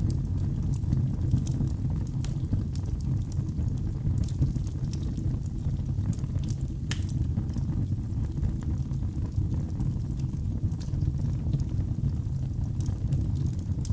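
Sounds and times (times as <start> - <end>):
wood fire crackling and popping: 0.0 - 13.9.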